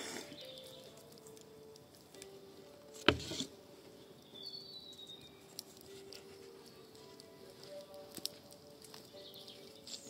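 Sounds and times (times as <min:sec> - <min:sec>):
fire crackling and popping: 0:00.0 - 0:10.0.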